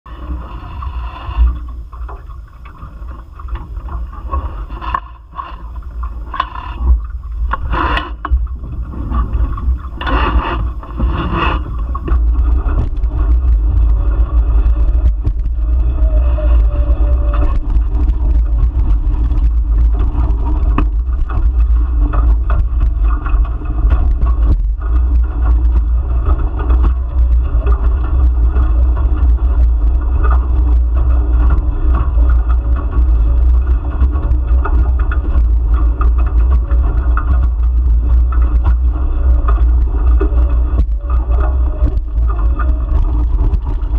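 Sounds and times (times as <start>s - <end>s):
water rushing and splashing: 0.1s - 43.9s
wind buffeting microphone: 1.4s - 43.9s.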